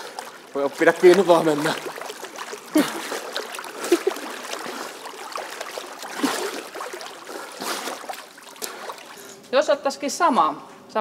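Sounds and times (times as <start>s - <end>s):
pool water splashing: 0.0s - 9.5s.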